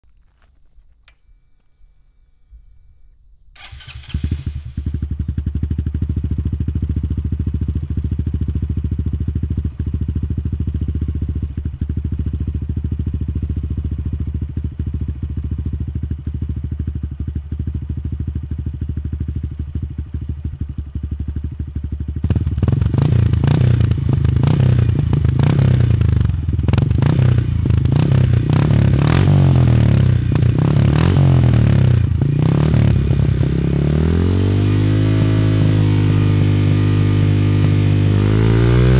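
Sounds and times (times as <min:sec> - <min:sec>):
motorcycle engine idling and revving: 0:03.6 - 0:38.9.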